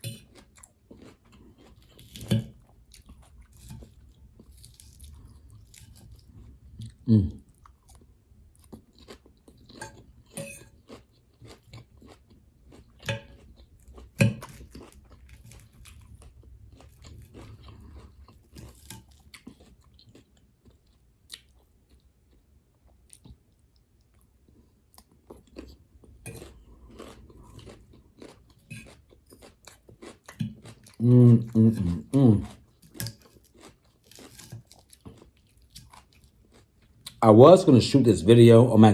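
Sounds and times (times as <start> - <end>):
person chewing crunchy salad: 0.0 - 37.2.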